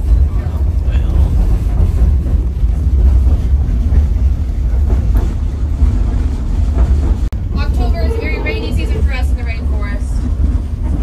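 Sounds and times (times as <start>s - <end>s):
train car rumbling on rails: 0.0s - 11.0s.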